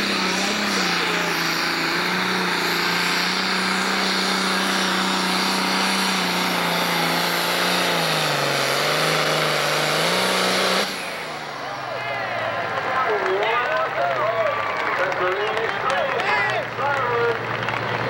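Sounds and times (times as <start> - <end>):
diesel engine screaming flat out: 0.0 - 18.0.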